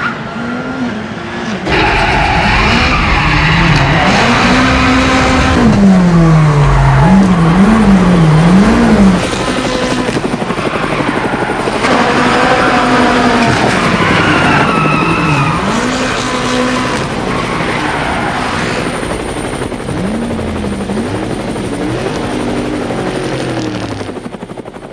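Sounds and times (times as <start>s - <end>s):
car engines revving: 0.0s - 24.3s
helicopter rotor chopping: 1.7s - 24.9s.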